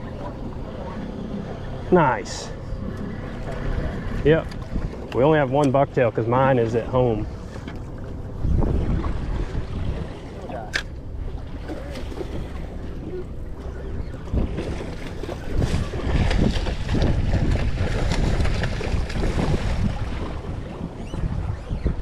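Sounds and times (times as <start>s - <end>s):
water sloshing against hull: 0.0s - 22.0s
wind buffeting microphone: 0.0s - 22.0s.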